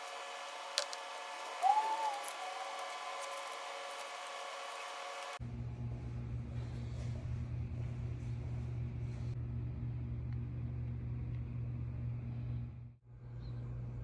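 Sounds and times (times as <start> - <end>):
low hum of workshop machinery: 0.0 - 14.0.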